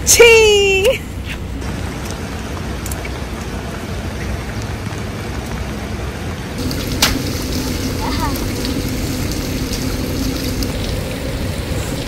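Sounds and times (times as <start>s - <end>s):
rain on wet paving: 2.0s - 12.0s.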